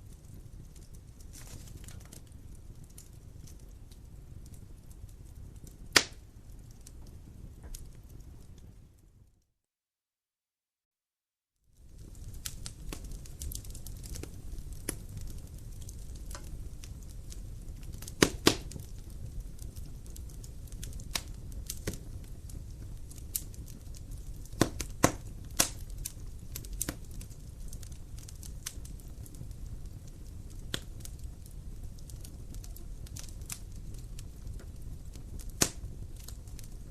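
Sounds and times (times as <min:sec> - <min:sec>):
wood fire crackling: 0:00.0 - 0:09.4, 0:11.6 - 0:36.9.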